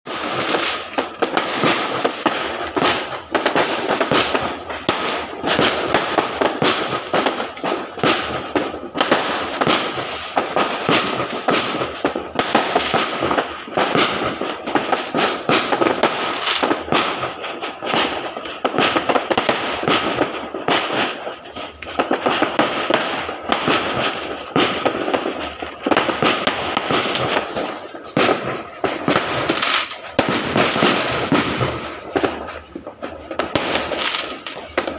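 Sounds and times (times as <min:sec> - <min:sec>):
firecrackers and fireworks banging: 0:00.0 - 0:34.9.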